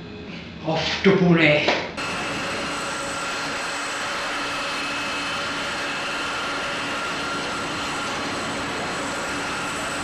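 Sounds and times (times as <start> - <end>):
jet engines running: 1.9 - 10.0.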